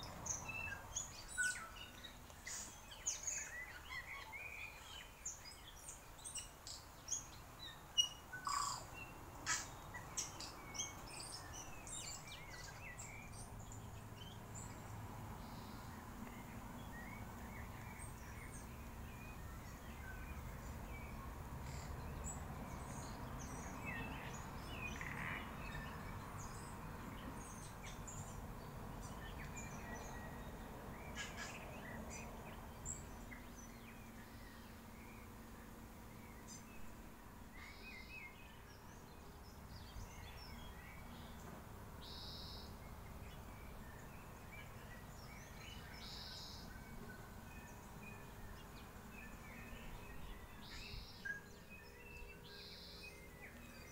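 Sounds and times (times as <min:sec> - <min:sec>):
low background noise: 0:00.0 - 0:53.9
wild birds chirping: 0:00.0 - 0:53.9.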